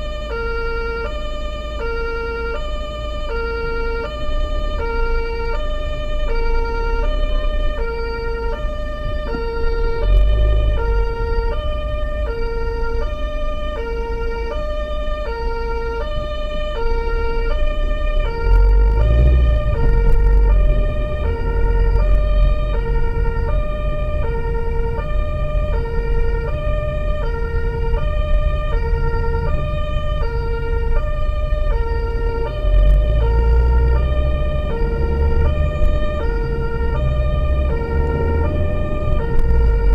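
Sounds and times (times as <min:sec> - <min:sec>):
two-tone emergency siren: 0:00.0 - 0:39.9
vehicle engine and tyres: 0:00.0 - 0:39.9.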